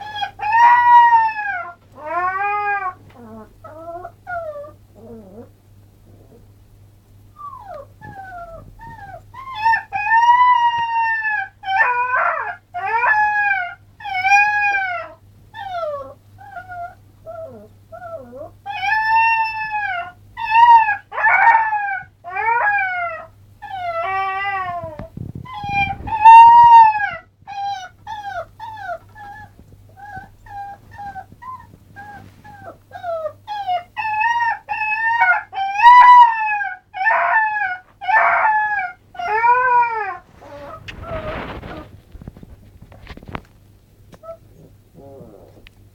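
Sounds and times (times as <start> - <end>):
puppy howling: 0.0 - 5.5, 7.4 - 41.9
puppy whining and yipping: 0.0 - 5.5, 7.3 - 42.0, 44.1 - 45.6.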